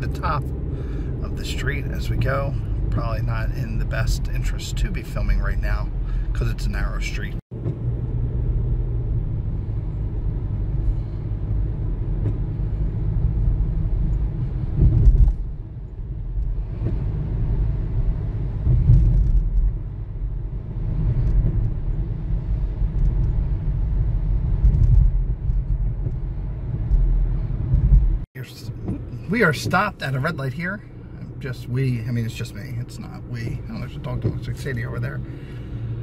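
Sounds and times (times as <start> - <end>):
car cabin road noise: 0.0 - 36.0.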